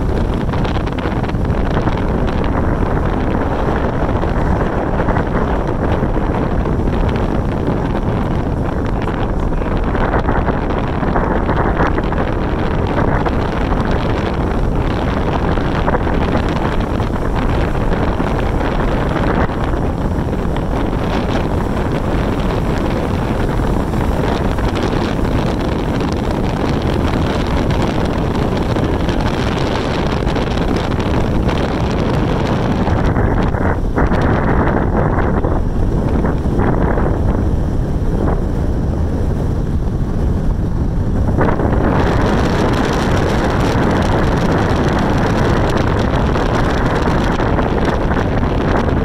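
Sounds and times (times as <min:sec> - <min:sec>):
vehicle road noise: 0:00.0 - 0:49.0
wind rushing over microphone: 0:00.0 - 0:49.0.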